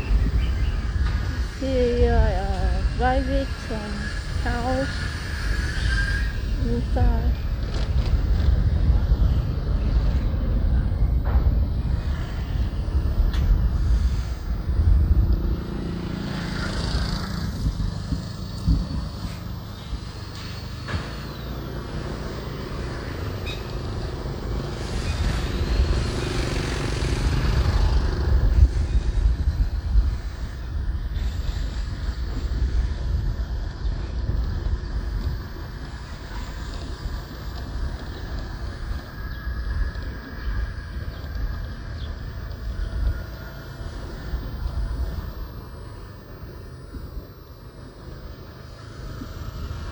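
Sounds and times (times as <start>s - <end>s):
wind buffeting microphone: 0.0s - 47.4s
motorbike engine rumble: 0.0s - 49.9s.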